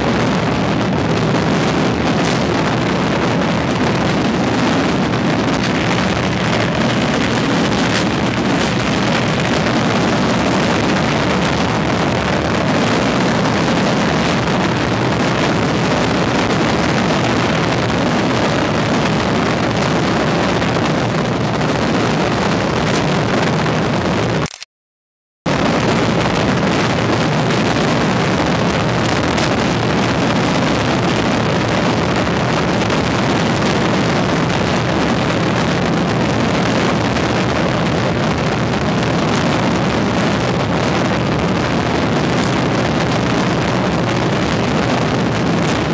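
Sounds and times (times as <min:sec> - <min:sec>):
fireworks crackling: 0:00.0 - 0:24.5, 0:25.5 - 0:45.9.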